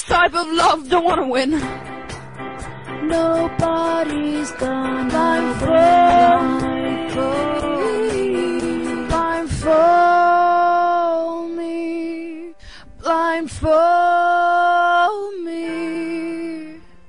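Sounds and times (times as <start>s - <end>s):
woman singing sustained notes: 3.1s - 16.8s.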